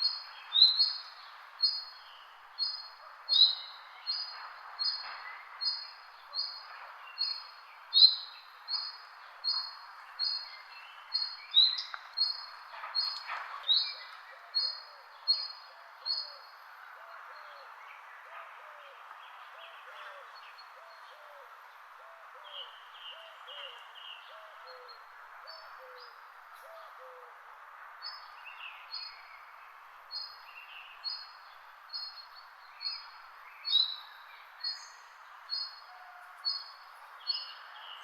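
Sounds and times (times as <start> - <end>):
background hiss: 0.0 - 38.0.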